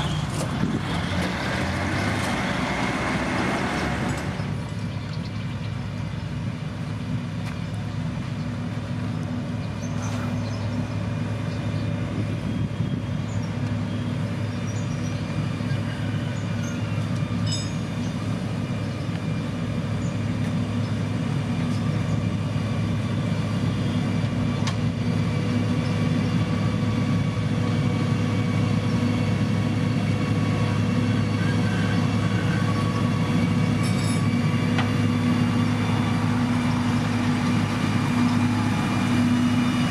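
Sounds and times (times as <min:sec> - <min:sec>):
diesel machinery engine hum: 0:00.0 - 0:39.9.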